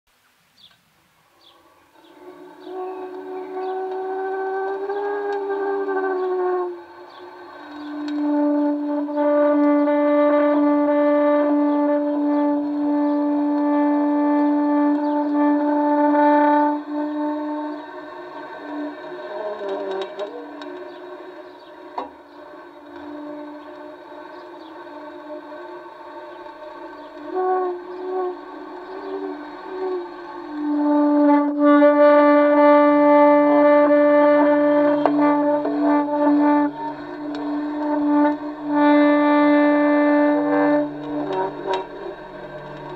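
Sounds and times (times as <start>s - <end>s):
horn-like drone: 1.2s - 42.9s.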